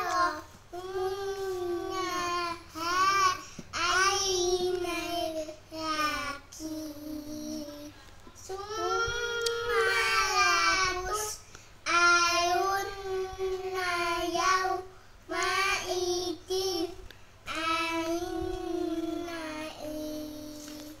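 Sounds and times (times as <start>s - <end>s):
boys singing together: 0.0s - 7.7s, 8.4s - 20.8s.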